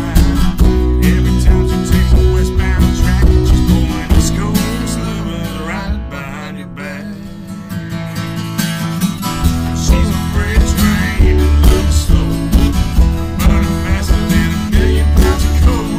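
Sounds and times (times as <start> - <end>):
country song with acoustic guitar: 0.0 - 15.9.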